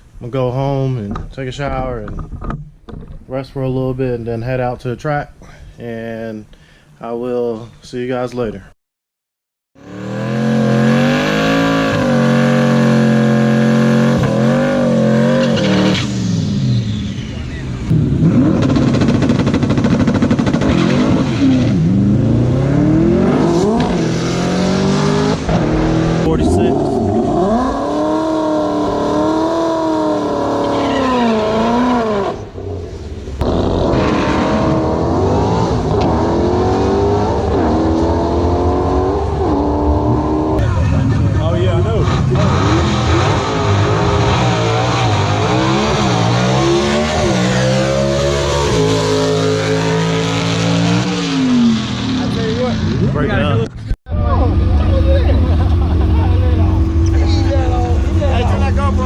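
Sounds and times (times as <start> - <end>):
car engine revving high: 9.8 - 53.2, 54.2 - 59.0.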